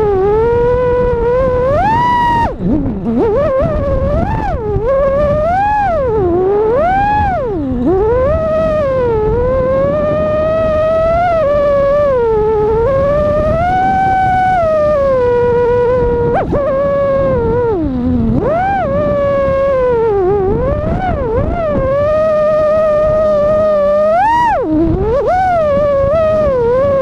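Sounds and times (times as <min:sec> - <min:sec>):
drone motors whining: 0:00.0 - 0:27.0
steady low rumble: 0:00.0 - 0:27.0.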